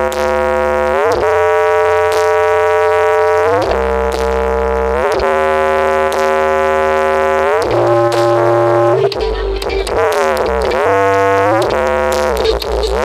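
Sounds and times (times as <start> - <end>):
deep sustained bass notes: 0.0 - 13.0
sliding synthesizer lead: 0.0 - 13.0.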